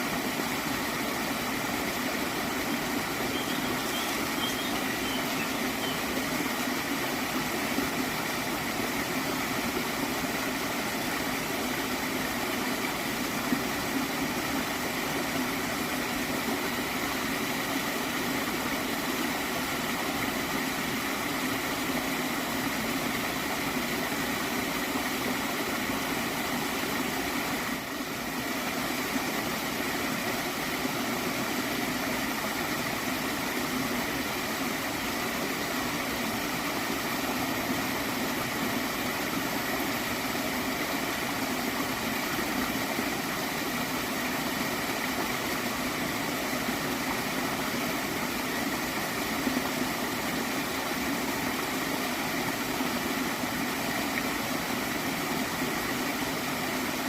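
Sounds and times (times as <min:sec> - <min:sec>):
stream gurgling: 0:00.0 - 0:57.0.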